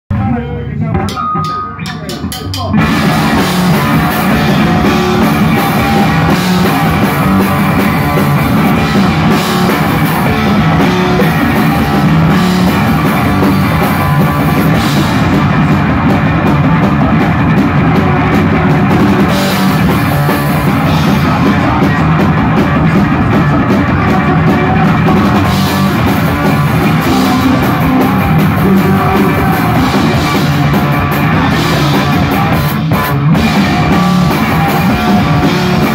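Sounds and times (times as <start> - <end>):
drum kit: 0.1 - 35.9
electric bass guitar: 0.1 - 35.9.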